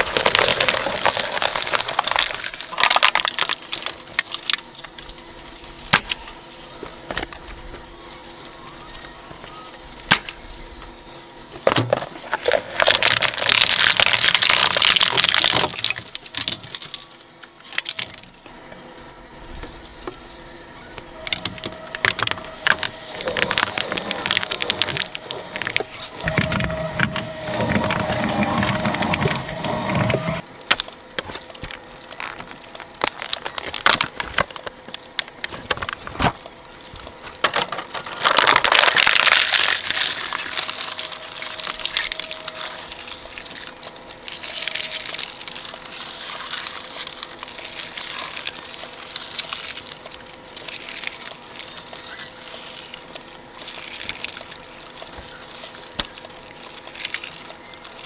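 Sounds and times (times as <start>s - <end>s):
shredder crunching toys: 0.0s - 58.0s
shredder motor hum: 0.0s - 58.0s.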